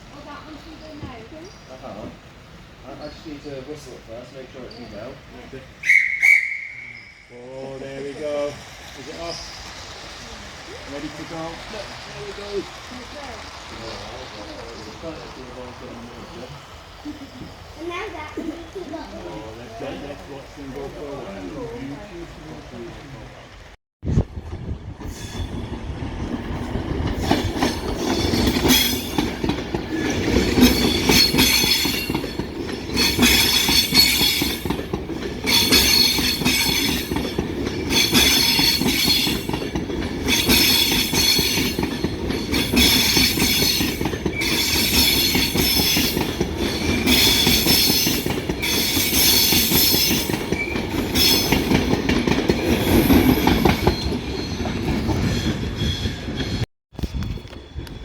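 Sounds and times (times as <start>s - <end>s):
train clatter and squeal: 0.0s - 19.0s, 24.4s - 58.0s
model train wheels rumbling: 0.0s - 58.0s.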